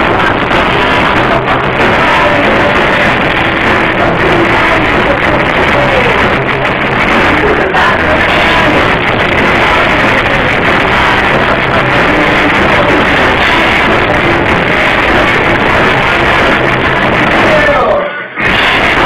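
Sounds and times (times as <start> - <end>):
muffled rock band playing: 0.0 - 19.0.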